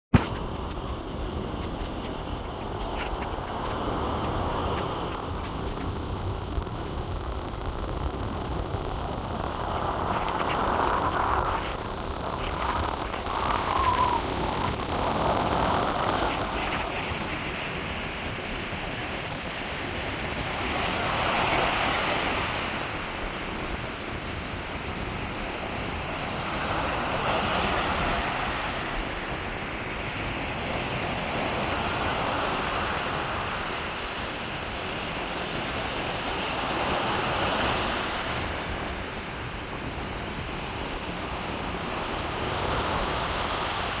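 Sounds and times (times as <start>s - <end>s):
sea waves breaking on beach: 0.1s - 44.0s
wind rushing on microphone: 0.1s - 44.0s.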